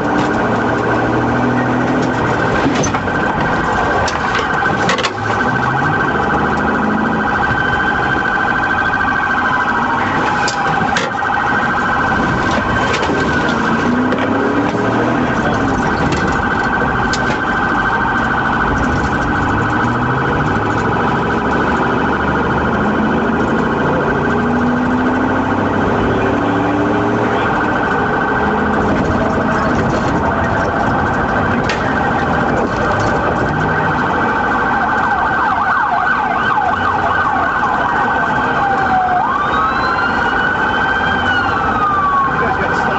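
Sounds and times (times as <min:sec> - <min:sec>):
engine and road noise: 0:00.0 - 0:42.9
police siren wailing: 0:00.0 - 0:42.9.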